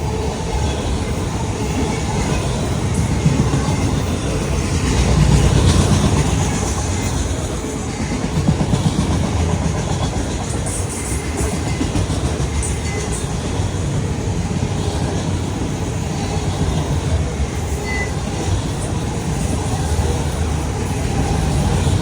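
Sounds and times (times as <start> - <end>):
clickety-clack of rail joints: 0.0 - 22.0
train wheels rumbling on rail: 0.0 - 22.0.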